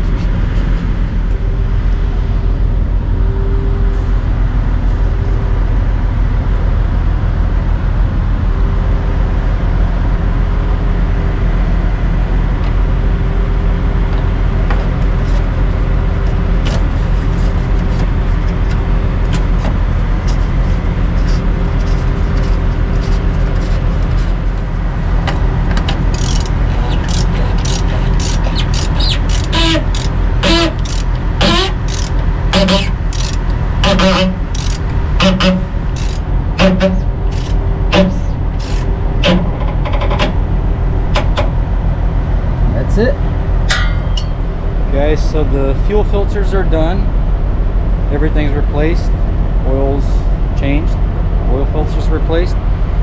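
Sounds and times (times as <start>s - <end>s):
faint hum: 0.0s - 53.0s
engine idling: 5.2s - 53.0s.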